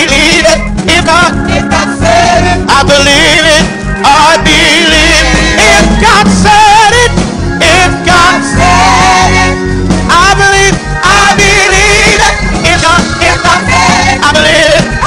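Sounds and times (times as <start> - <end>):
band accompaniment: 0.0 - 15.0
man singing with vibrato: 0.0 - 15.0.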